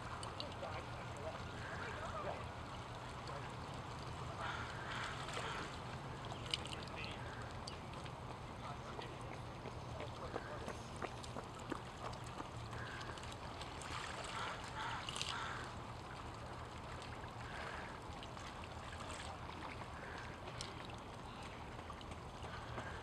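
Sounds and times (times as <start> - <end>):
waves lapping on rocks: 0.0 - 23.0.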